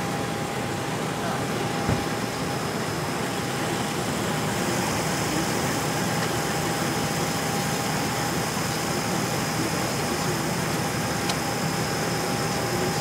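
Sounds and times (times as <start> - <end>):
machine running with high whine: 0.0 - 13.0.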